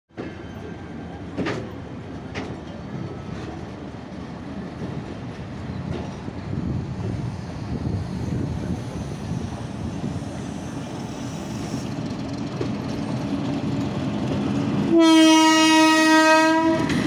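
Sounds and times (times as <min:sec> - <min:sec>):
train coach rumbling: 0:00.1 - 0:17.0.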